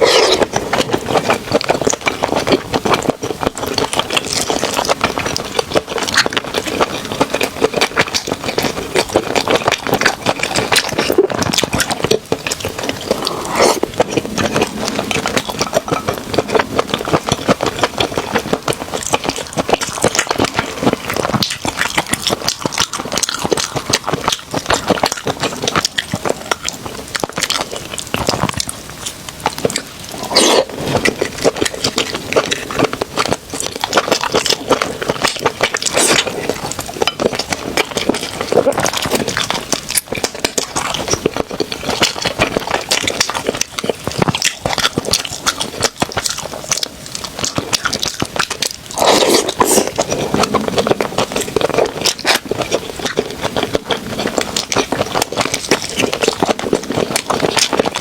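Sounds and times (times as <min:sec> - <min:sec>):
close chewing and eating: 0:00.0 - 0:58.0.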